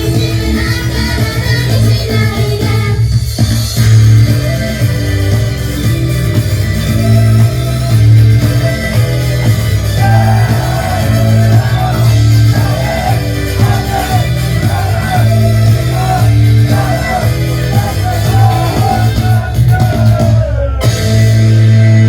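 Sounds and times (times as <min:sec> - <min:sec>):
rock pop song over loudspeakers: 0:00.0 - 0:22.0.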